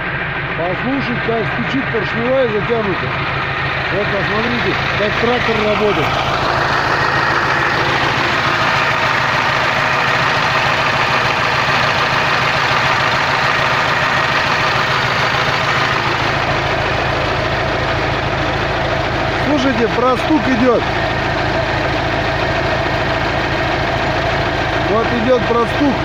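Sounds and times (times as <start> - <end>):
diesel engine idling with knock: 0.0 - 26.0.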